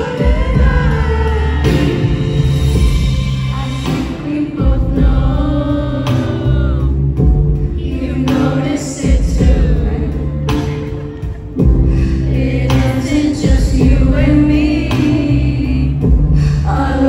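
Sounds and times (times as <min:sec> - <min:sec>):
music with heavy bass: 0:00.0 - 0:17.0
woman singing into microphone: 0:00.0 - 0:17.0.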